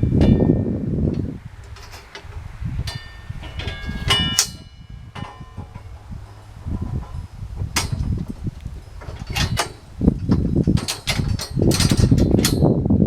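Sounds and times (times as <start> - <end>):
knocks and clatters: 0.0 - 13.0.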